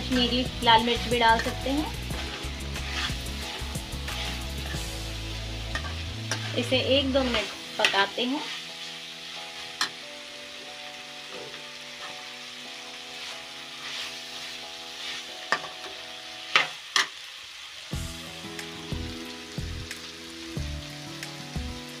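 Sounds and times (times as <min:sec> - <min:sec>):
food sizzling in a metal pan: 0:00.0 - 0:22.0.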